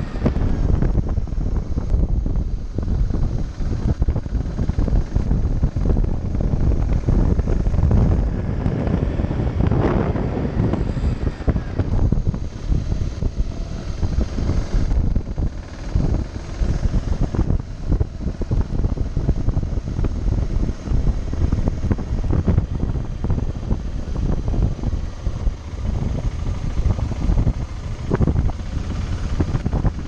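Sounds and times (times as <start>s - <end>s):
motorcycle engine running: 0.0s - 30.0s
wind buffeting the microphone: 0.0s - 30.0s.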